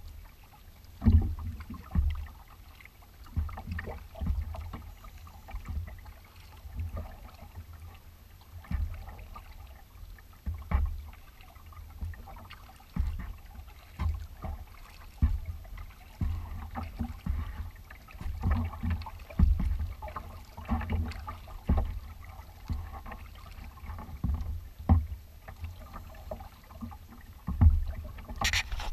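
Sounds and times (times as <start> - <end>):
paddle splashing in water: 0.0 - 28.9
water slapping hull: 0.0 - 28.9.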